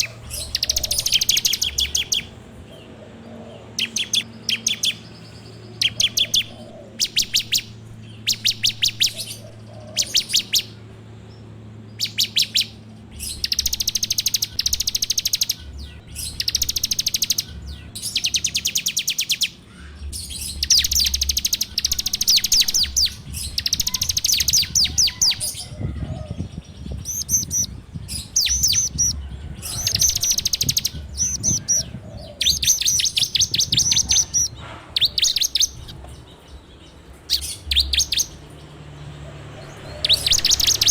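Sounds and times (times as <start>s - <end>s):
bird singing rattling notes: 0.0s - 40.9s.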